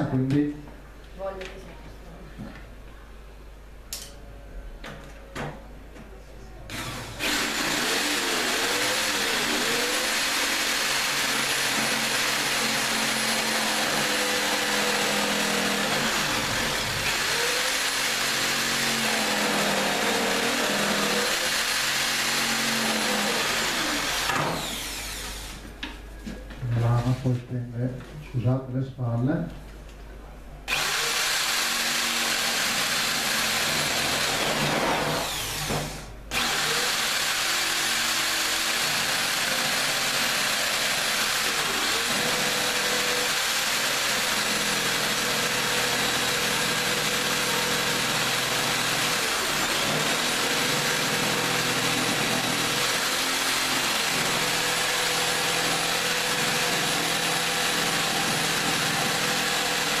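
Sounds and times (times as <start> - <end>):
electric jigsaw cutting worktop: 6.7 - 25.6, 30.7 - 60.0.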